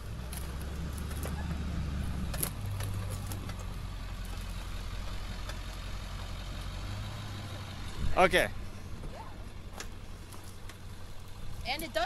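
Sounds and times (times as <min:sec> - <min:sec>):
truck engine humming: 0:00.0 - 0:12.0.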